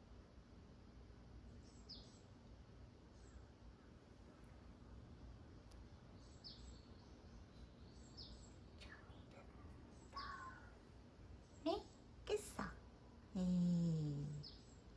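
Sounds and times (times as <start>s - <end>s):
low steady hum: 0.0s - 14.9s
birds chirping: 1.5s - 2.4s, 3.0s - 12.8s, 13.4s - 14.9s.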